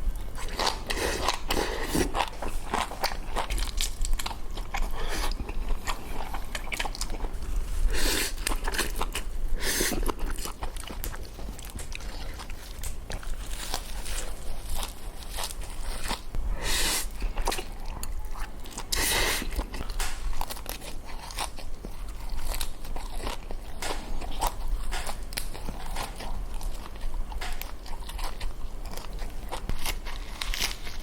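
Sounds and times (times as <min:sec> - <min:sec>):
chewing noodles: 0:00.2 - 0:31.0.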